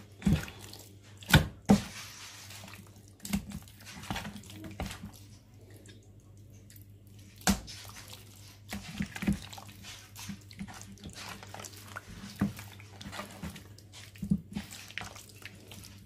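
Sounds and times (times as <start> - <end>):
wet squelching of raw chicken: 0.0 - 16.0.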